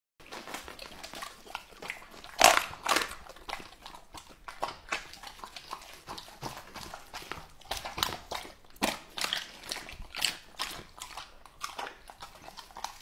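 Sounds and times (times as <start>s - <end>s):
dog chewing meat: 0.2s - 13.0s.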